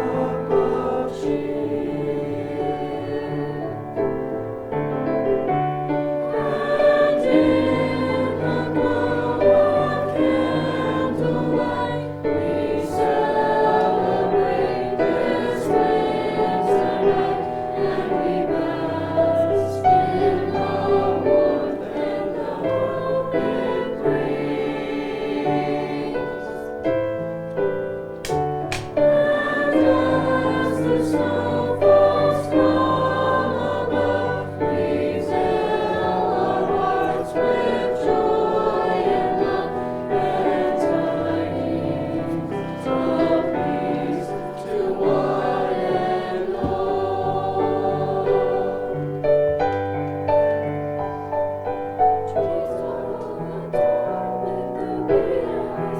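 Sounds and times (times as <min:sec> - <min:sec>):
choir singing in parts: 0:00.0 - 0:55.9.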